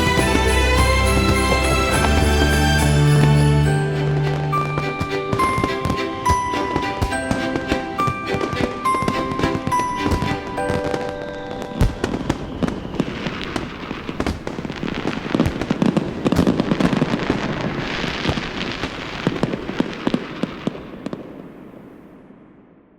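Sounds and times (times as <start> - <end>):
fireworks crackling and popping: 0.0 - 22.7.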